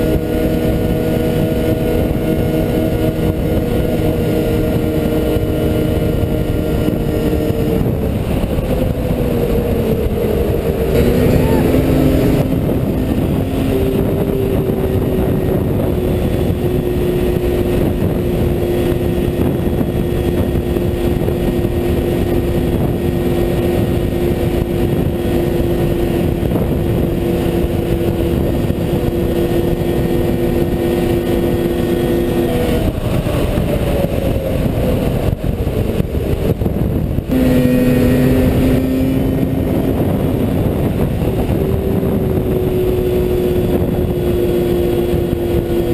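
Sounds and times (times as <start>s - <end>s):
snowmobile engine at high revs: 0.0s - 45.9s.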